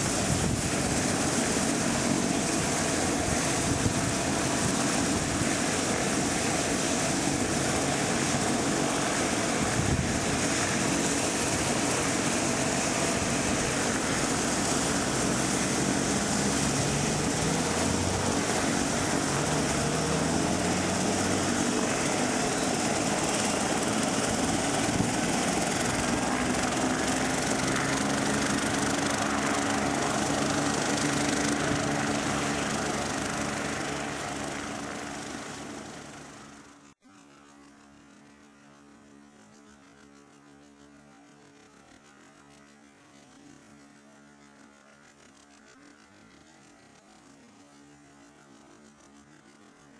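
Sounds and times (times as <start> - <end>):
helicopter turbine whine and rotor: 0.0 - 49.9.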